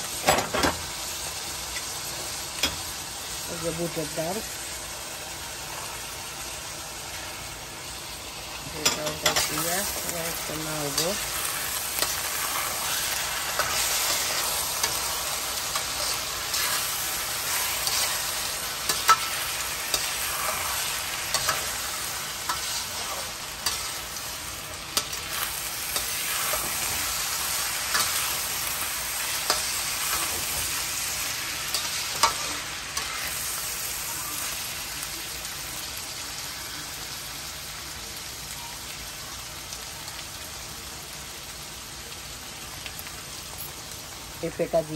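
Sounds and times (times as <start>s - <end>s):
lentils sizzling in oil: 0.0s - 44.9s.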